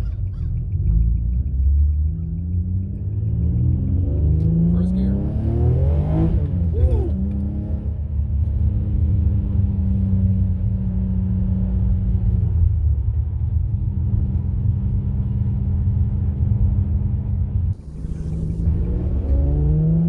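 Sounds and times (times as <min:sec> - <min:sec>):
car exhaust drone: 0:00.0 - 0:20.0.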